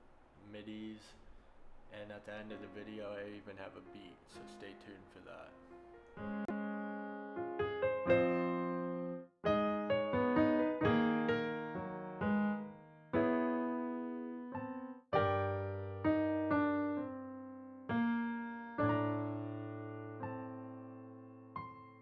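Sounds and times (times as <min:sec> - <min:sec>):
piano chords: 0:01.9 - 0:22.0.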